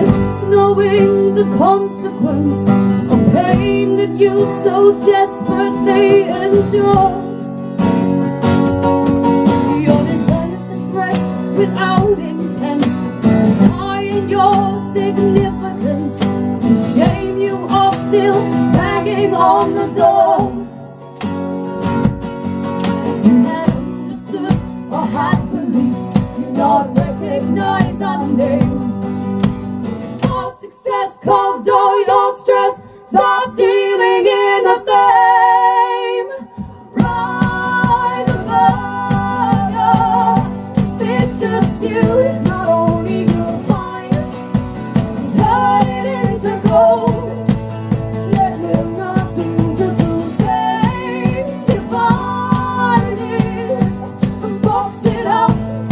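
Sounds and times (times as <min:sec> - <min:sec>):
women singing in harmony: 0:00.0 - 0:07.4, 0:09.5 - 0:20.8, 0:23.1 - 0:29.0, 0:30.2 - 0:55.9
strummed acoustic guitar: 0:00.0 - 0:31.1, 0:36.5 - 0:55.9.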